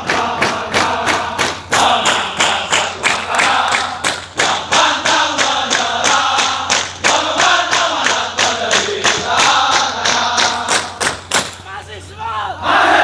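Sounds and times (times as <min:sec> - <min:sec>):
soldiers chanting in unison: 0:00.0 - 0:11.1, 0:12.4 - 0:13.0
sharp drum beat: 0:00.0 - 0:11.6.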